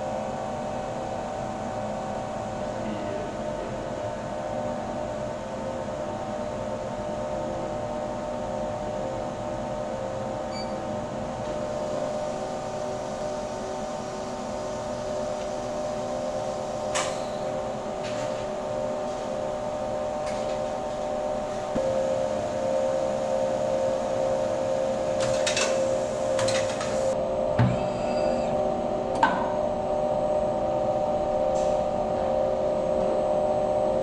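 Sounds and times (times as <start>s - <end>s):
machine hum: 0.0s - 34.0s.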